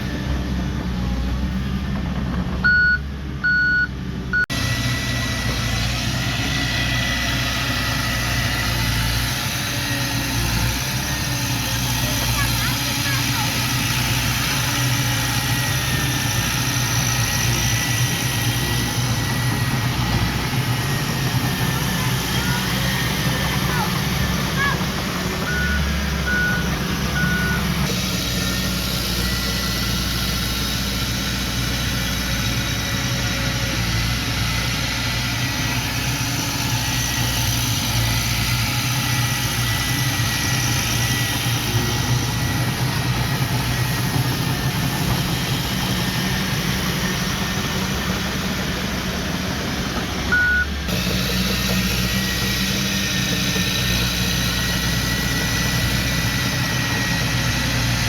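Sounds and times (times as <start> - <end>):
heavy machinery diesel drone: 0.0 - 58.0.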